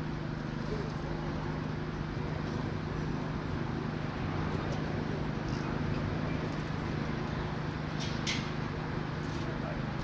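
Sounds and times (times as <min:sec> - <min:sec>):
engine idling hum: 0:00.0 - 0:10.0
street noise: 0:00.0 - 0:10.0.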